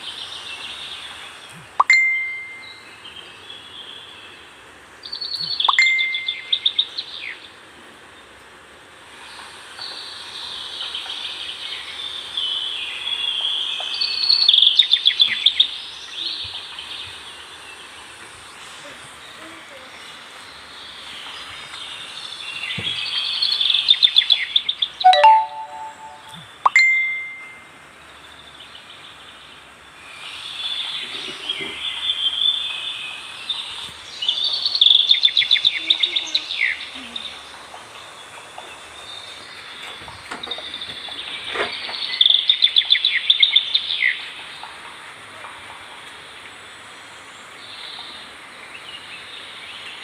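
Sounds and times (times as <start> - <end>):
birds singing trilling song: 0.0 - 8.3, 9.2 - 45.0, 45.8 - 50.0.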